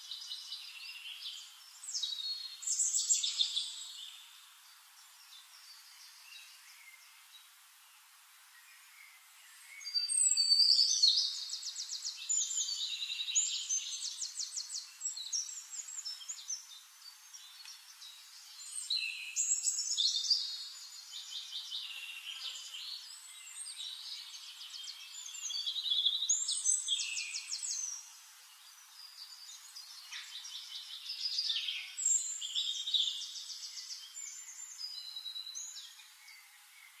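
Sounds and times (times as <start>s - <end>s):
songbird trilling and chirping: 0.0s - 7.2s, 8.8s - 37.0s.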